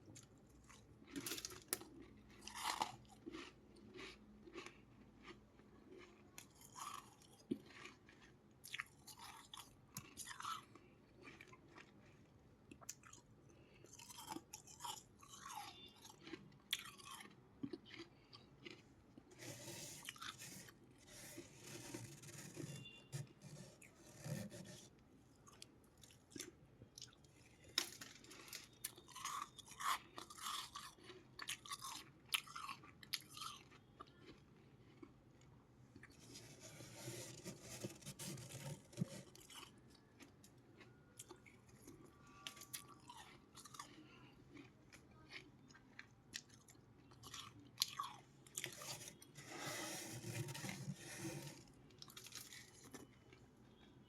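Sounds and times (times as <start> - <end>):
ice being chewed crunching: 0.0 - 54.0.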